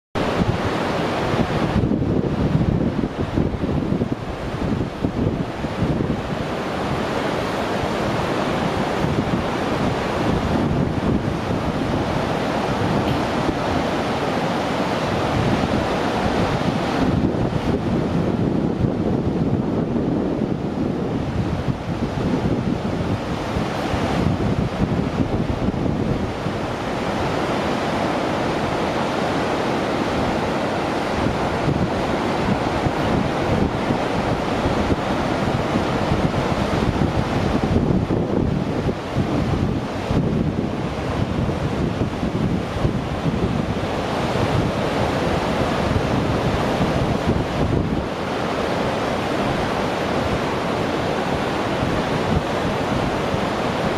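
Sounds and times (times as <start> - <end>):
waterfall rushing: 0.2 - 53.9
wind buffeting microphone: 0.2 - 53.9.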